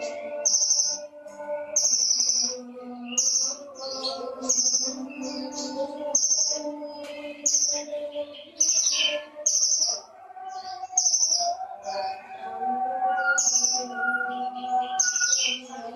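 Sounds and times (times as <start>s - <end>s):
background music: 0.0s - 15.9s
songbird chirping: 0.0s - 15.9s.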